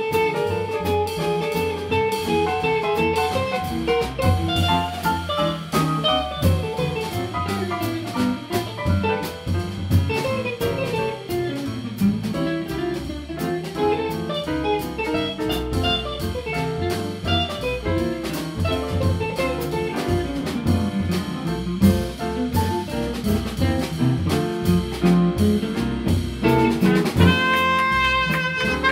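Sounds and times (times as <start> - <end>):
guitar: 0.0 - 23.3, 24.0 - 28.9
drum kit swing beat: 0.0 - 28.9
piano: 0.0 - 28.9
upright bass: 0.0 - 28.9.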